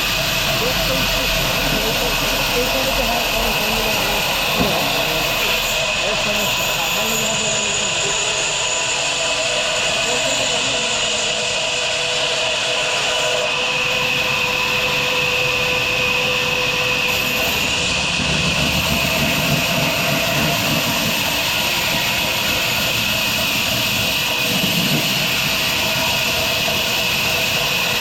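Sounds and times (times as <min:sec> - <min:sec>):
sawmill machinery hum and whine: 0:00.0 - 0:28.0.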